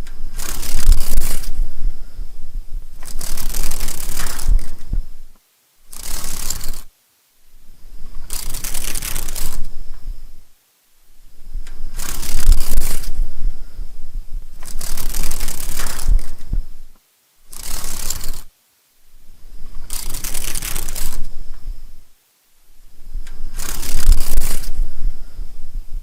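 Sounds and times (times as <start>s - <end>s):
dragonfly wings whirring: 0.0s - 6.9s, 7.8s - 10.4s, 11.4s - 18.5s, 19.4s - 22.0s, 23.0s - 25.8s.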